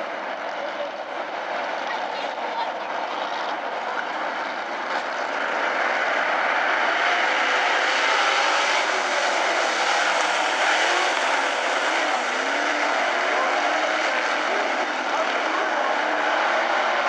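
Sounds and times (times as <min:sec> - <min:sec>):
race car engines at full throttle: 0:00.0 - 0:17.0.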